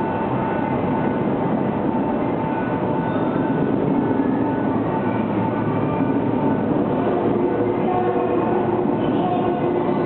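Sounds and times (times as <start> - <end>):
echoing train rumble: 0.0 - 10.0
steady high hum: 0.0 - 10.0.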